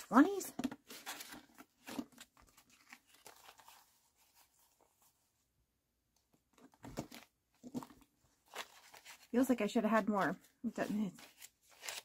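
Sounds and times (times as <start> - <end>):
banknotes rustling: 0.0 - 5.2, 6.8 - 12.0.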